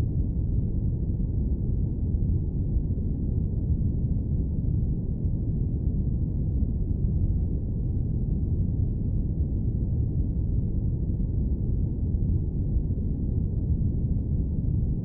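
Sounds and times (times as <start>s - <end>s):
airplane cabin low rumble: 0.0s - 15.0s.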